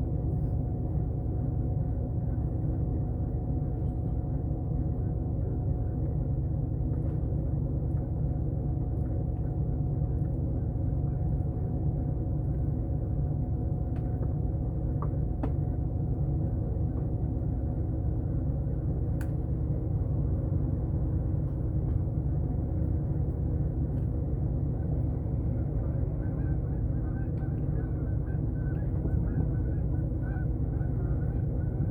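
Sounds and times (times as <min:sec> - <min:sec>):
engine idling with deep rumble: 0:00.0 - 0:31.9.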